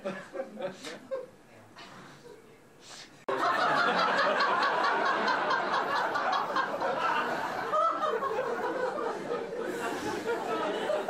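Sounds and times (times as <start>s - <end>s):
people laughing: 0.0s - 1.3s, 3.3s - 11.0s.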